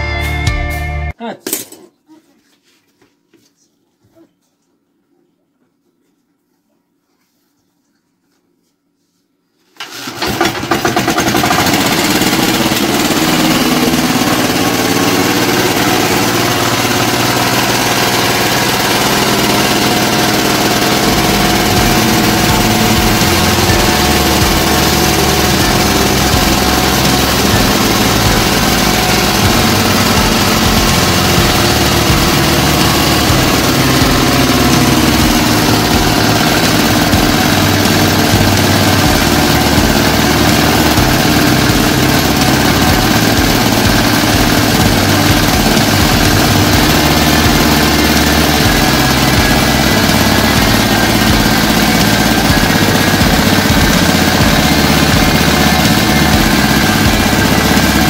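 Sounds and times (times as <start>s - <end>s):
diesel engine idling: 10.0s - 58.0s.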